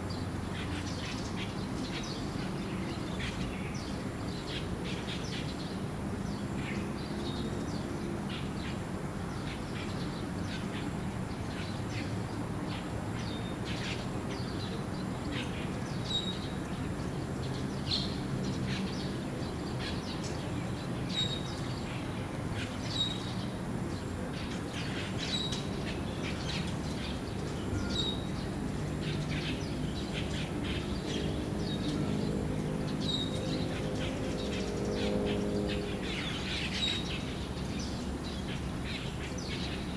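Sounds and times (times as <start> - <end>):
birds chirping: 0.1 - 39.9.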